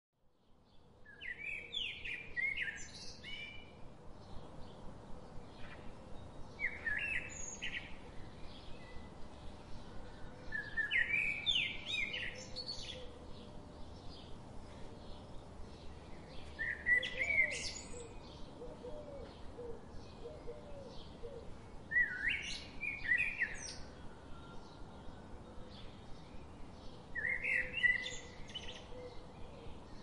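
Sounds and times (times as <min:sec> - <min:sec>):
background hiss: 0:00.4 - 0:30.0.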